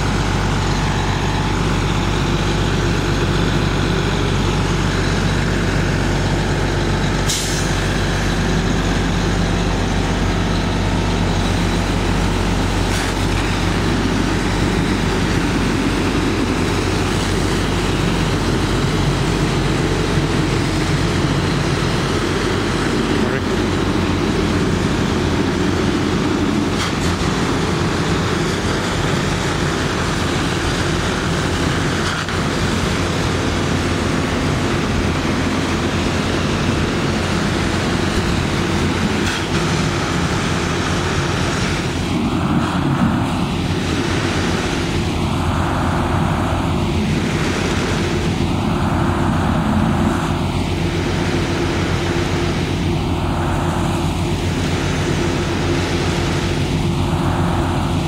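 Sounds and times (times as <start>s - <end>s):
engine drone: 0.0s - 58.0s.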